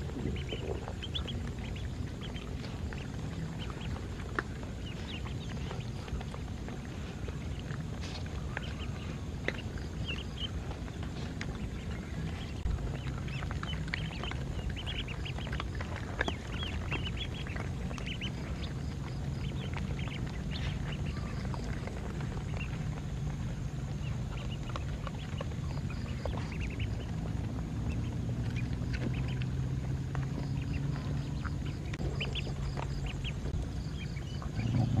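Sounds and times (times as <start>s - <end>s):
ducklings peeping: 0.0s - 35.0s
low steady hum: 0.0s - 35.0s.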